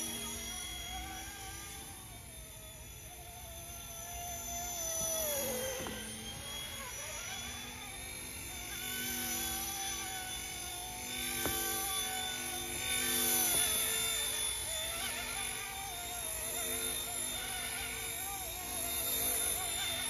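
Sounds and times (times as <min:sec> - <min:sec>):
rc helicopter motor and rotors whining: 0:00.0 - 0:20.0.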